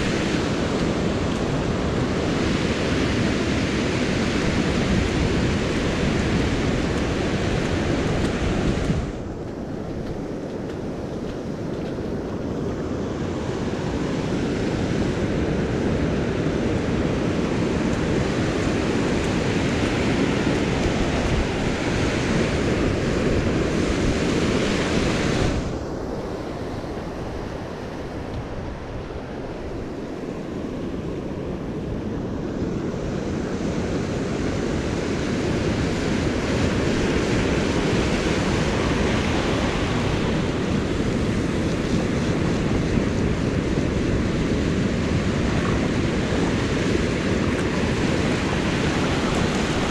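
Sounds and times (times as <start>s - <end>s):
surf breaking on a beach: 0.0s - 49.9s
wind buffeting microphone: 0.0s - 49.9s.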